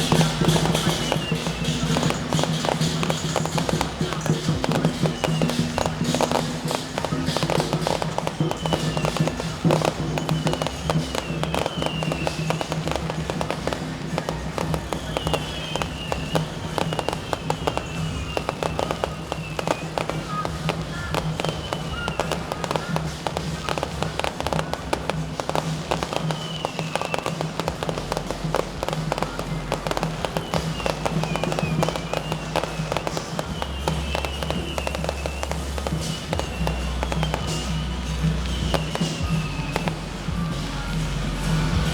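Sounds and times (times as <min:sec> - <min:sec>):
firecrackers popping: 0:00.0 - 0:41.9.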